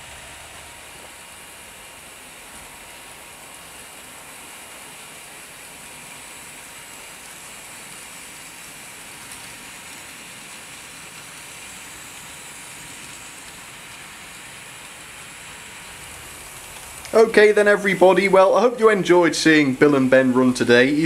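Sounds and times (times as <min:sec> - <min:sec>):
model train whirring on track: 0:00.0 - 0:21.0.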